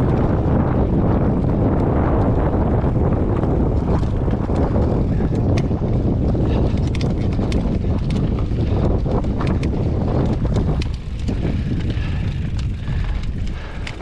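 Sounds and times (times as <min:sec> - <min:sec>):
bike clicking and rattling: 0:00.0 - 0:14.0
wind rushing over microphone: 0:00.0 - 0:14.0.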